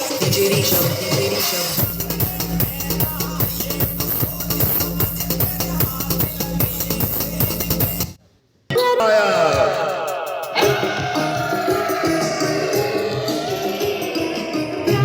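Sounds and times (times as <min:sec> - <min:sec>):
fast beat music through speakers: 0:00.0 - 0:08.2, 0:09.4 - 0:15.0.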